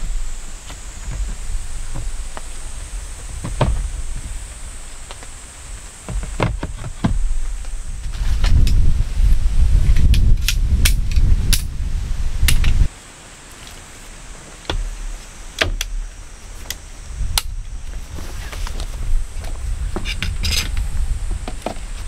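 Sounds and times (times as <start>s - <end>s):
wind buffeting microphone: 0.0s - 12.9s, 14.7s - 22.0s.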